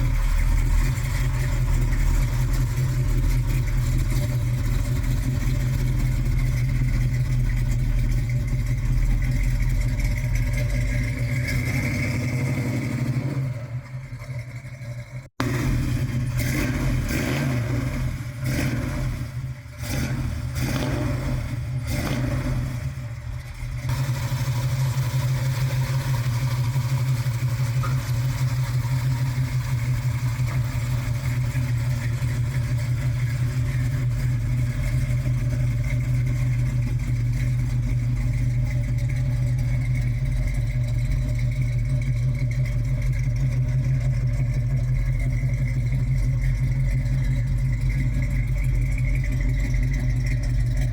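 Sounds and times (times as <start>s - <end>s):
car engine revving and idling: 0.0s - 50.9s.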